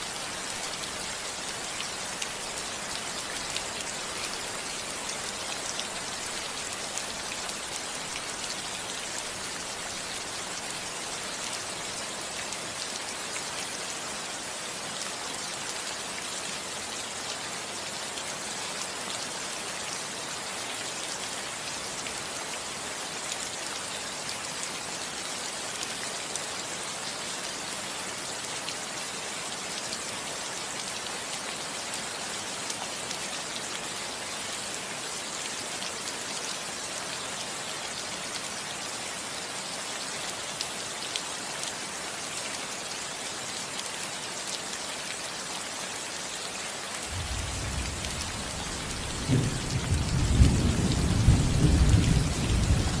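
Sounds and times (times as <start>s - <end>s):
rain on a roof: 0.0s - 53.0s.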